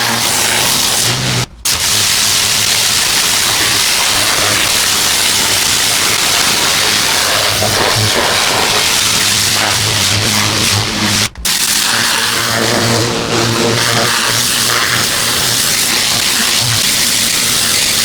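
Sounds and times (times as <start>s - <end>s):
motor humming: 0.0s - 18.0s
pressure washer spraying water: 0.0s - 18.0s.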